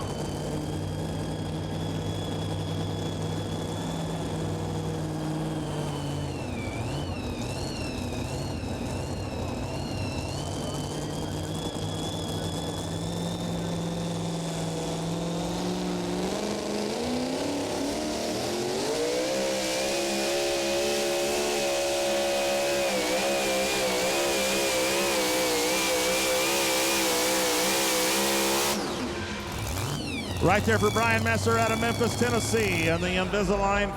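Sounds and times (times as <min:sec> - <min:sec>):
pulling truck engine revving: 0:00.0 - 0:33.9.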